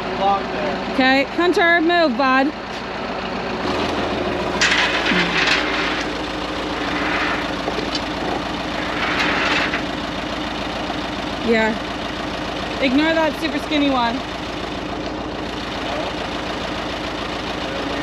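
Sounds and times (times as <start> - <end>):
loader engine running: 0.0 - 18.0
bucket working logs: 3.5 - 18.0.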